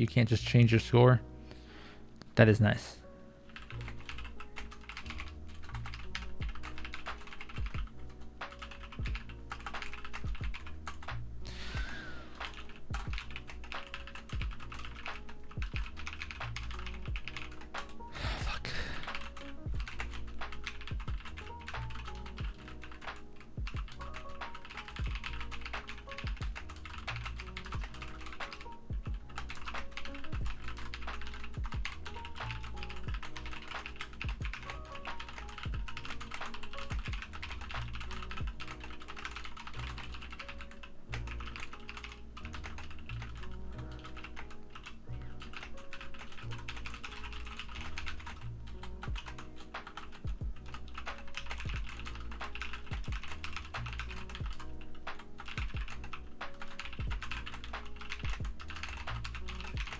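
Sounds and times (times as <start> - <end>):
lo-fi background music: 0.0 - 59.9
mechanical keyboard typing: 3.5 - 7.9, 8.5 - 11.1, 12.4 - 18.0, 19.0 - 59.9.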